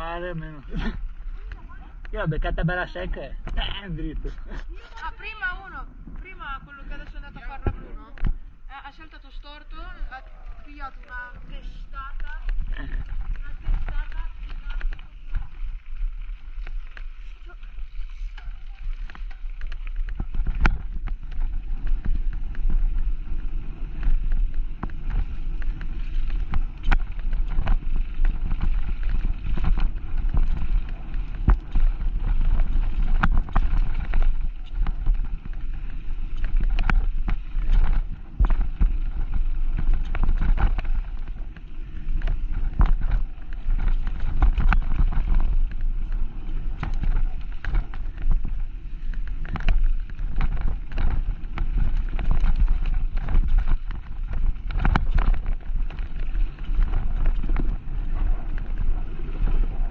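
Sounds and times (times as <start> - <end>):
wind rumble on microphone: 0.0 - 59.9
bike rattling and knocking: 10.6 - 59.9.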